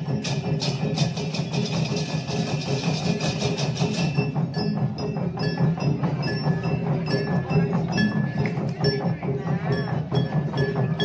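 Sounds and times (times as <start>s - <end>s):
drums: 0.0s - 11.0s.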